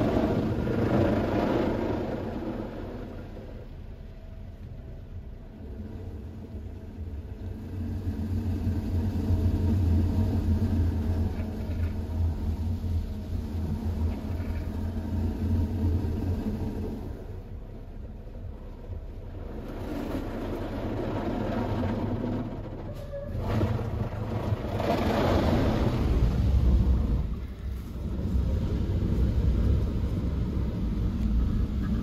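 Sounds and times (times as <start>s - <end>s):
car wash brushes rumbling: 0.0s - 32.0s.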